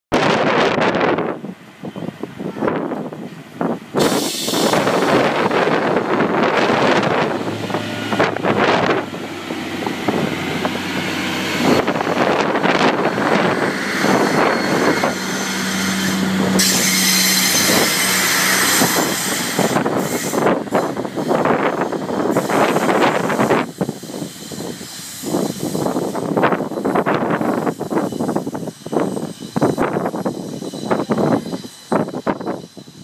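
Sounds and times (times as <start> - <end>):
wind buffeting microphone: 0.1 - 33.0
diesel train engine accelerating: 0.2 - 33.0
wheel and rail noise: 0.2 - 33.0.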